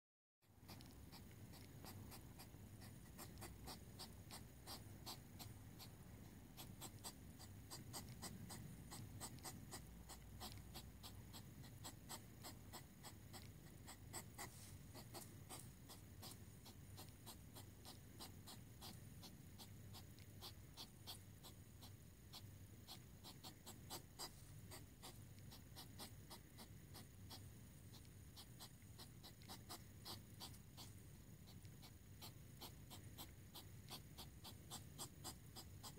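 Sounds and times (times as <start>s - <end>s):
hedgehog huffing and snorting: 0.6s - 35.9s.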